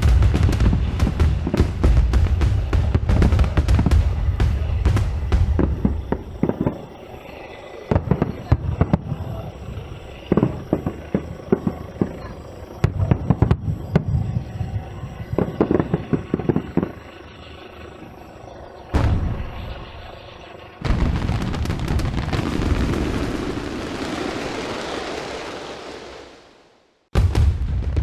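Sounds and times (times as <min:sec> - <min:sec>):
fireworks crackling bangs: 0:00.0 - 0:17.0, 0:18.9 - 0:28.0.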